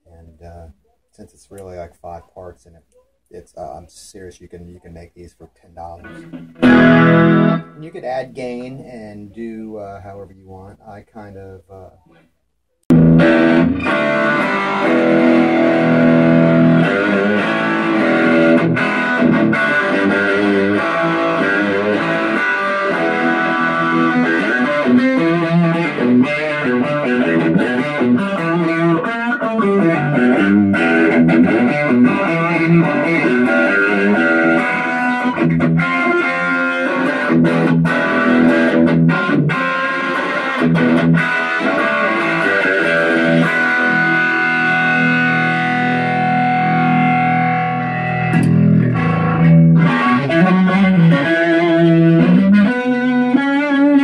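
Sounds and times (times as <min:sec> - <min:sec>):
electric guitar playing: 0:06.0 - 0:08.9, 0:12.9 - 0:54.0.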